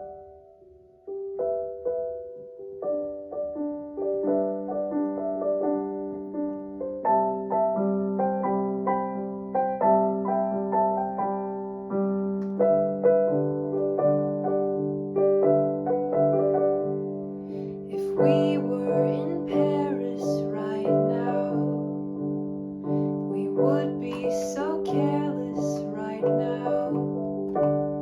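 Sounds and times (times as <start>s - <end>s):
piano playing: 0.0s - 28.0s.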